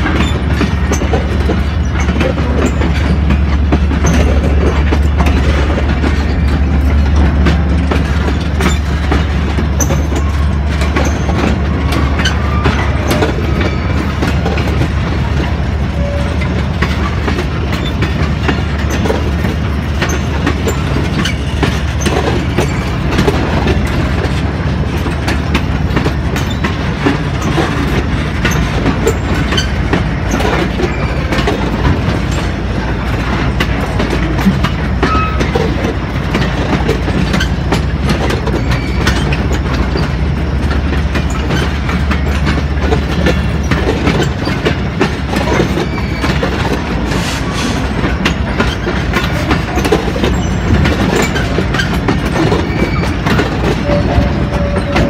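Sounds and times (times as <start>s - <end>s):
steel wheels rumbling on rails: 0.0s - 55.0s
wheels clicking over rail joints: 0.0s - 55.0s.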